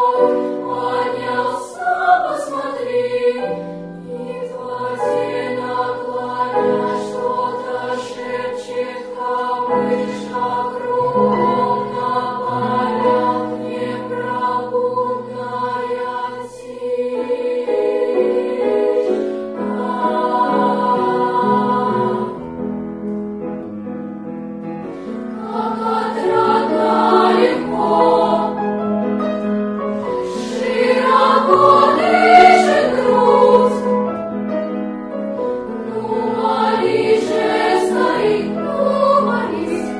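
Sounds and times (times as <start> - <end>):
children's choir singing: 0.0 - 22.6, 25.3 - 28.8, 29.9 - 34.4, 35.4 - 39.9.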